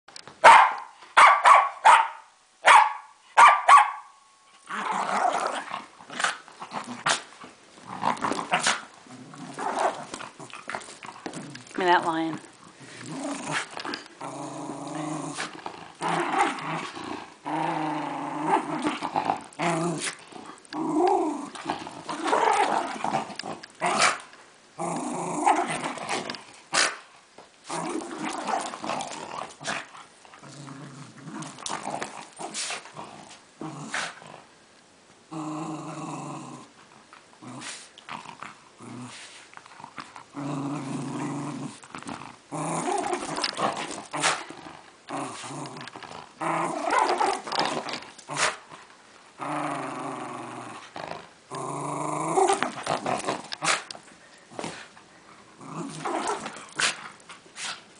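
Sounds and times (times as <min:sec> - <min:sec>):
dog growling playfully: 0:04.6 - 0:27.0, 0:27.6 - 0:34.6, 0:35.3 - 0:48.8, 0:49.4 - 0:57.8.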